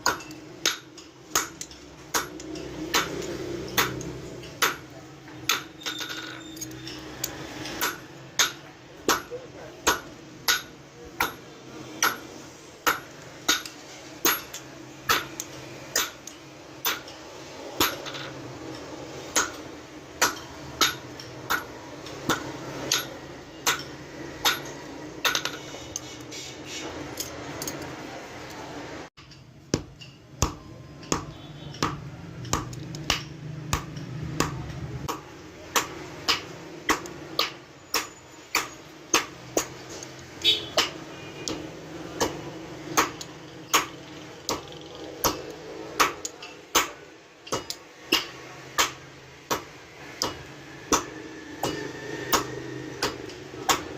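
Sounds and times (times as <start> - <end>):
hammer striking metal on anvil: 0.0 - 17.2, 17.8 - 18.4, 19.1 - 26.1, 29.2 - 39.8, 40.8 - 53.9.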